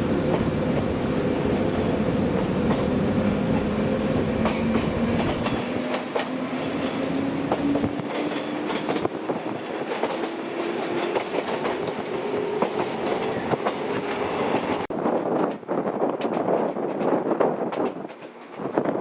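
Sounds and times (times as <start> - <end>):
train wheels clicking over rail joints: 0.1 - 19.0.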